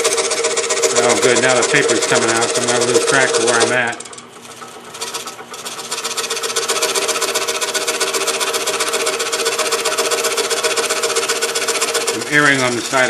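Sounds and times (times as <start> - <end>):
scroll saw cutting thin wood: 0.0 - 13.0.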